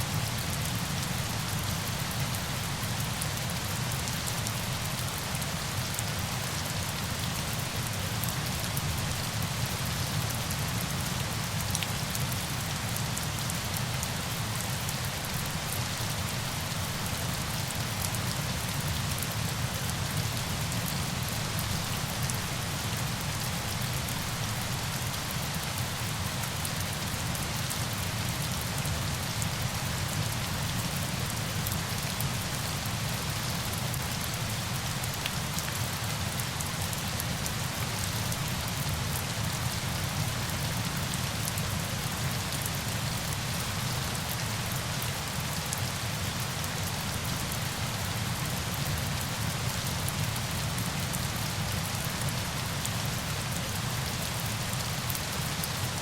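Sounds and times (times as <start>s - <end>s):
steady rain with drop ticks: 0.0s - 56.0s.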